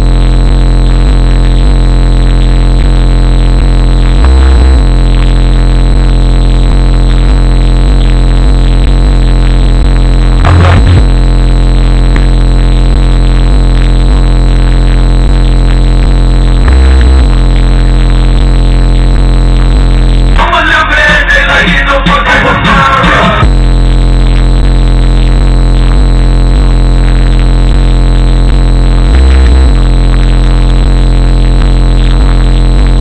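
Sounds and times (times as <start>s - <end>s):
hard bass hits: 0.0s - 33.0s
loud distorted bass music: 0.0s - 33.0s.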